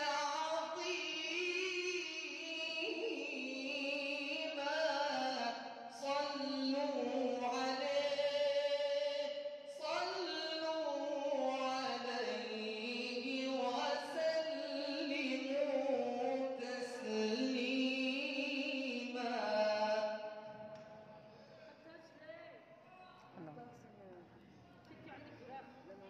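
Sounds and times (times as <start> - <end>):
person singing devotional song: 0.0 - 21.4.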